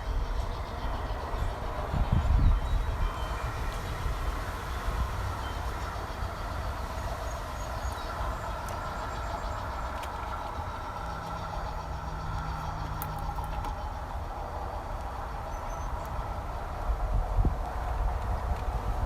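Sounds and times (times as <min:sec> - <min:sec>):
model train motor hum: 0:00.0 - 0:19.0.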